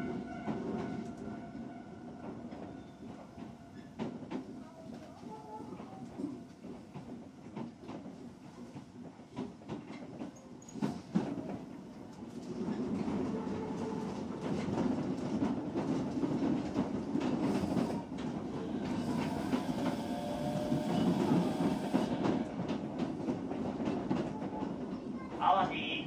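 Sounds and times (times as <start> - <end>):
train wheels rumbling on rail: 0.0 - 26.0
clicks inside train: 2.2 - 25.4
rail-joint clatter: 2.2 - 25.4.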